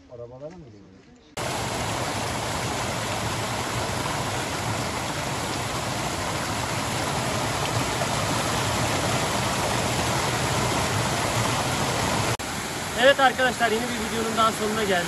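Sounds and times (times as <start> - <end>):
small waterfall over rocks: 1.4 - 15.0.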